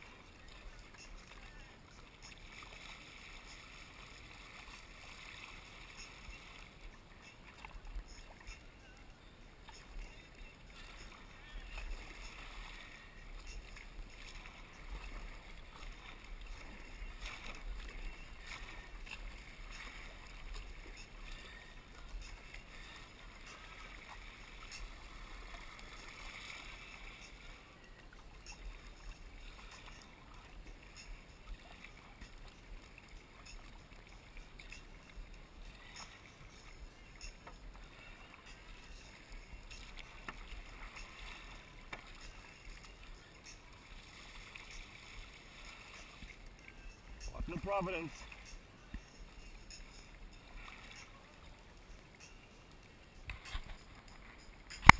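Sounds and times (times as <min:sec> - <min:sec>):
kayak paddle splashing: 0:00.0 - 0:54.9
water washing along hull: 0:00.0 - 0:54.9.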